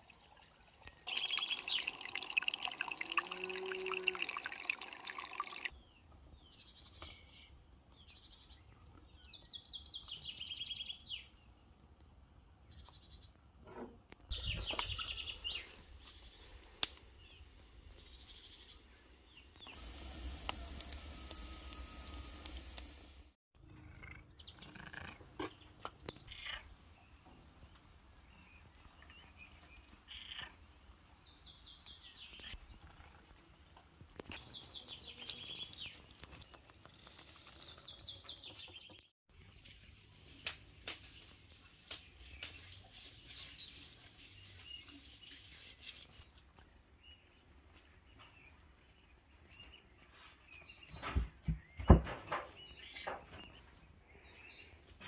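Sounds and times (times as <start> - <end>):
faint birdsong chirps and trills: 0.0 - 13.6, 14.2 - 23.1, 24.2 - 32.7, 34.2 - 55.0.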